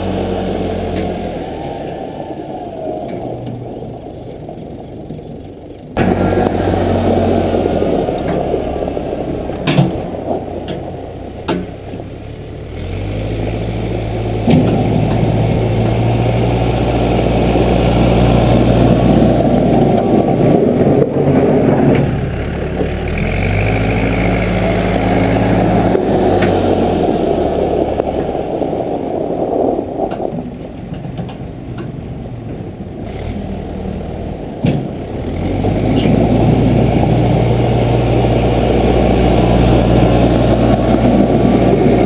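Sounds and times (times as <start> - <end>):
backhoe engine running: 0.0 - 42.0.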